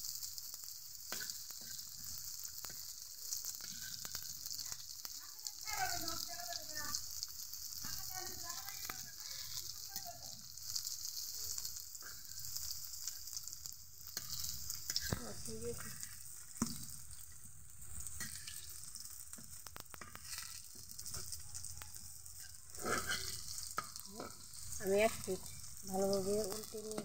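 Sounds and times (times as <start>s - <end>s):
fritters sizzling in hot oil: 0.0s - 27.0s
metal spatula scraping a pan: 1.0s - 4.9s, 7.7s - 27.0s.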